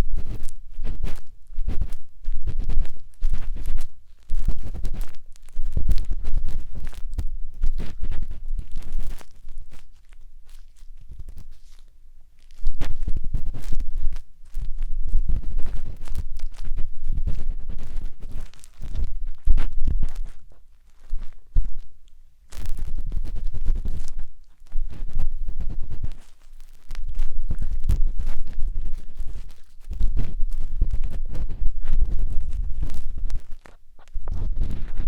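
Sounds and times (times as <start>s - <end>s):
matchstick scratching on microphone: 0.0s - 35.0s.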